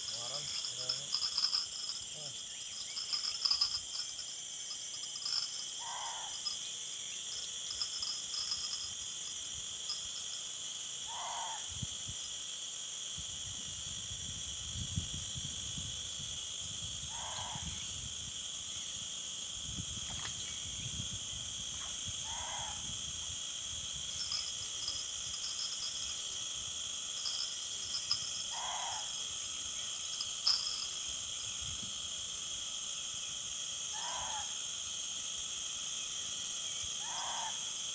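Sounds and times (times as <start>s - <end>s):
crickets and insects chorus: 0.0s - 37.9s.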